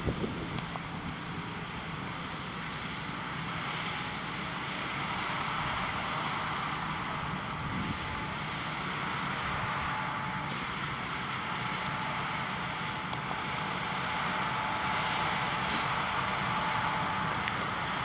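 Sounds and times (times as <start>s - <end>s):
harvesting machinery running: 0.0s - 18.0s.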